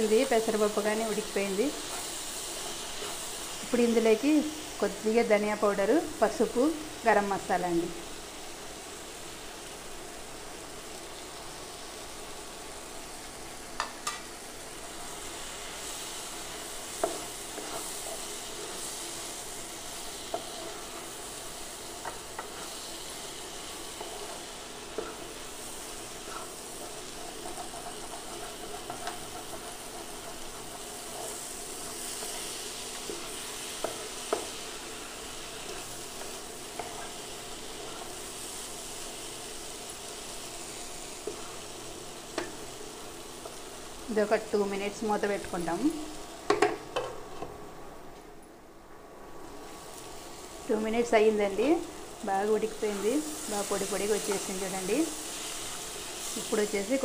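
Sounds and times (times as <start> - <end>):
frying sizzle: 0.0 - 57.0
wooden spatula stirring vegetables: 0.1 - 4.7, 13.7 - 47.6, 49.6 - 57.0.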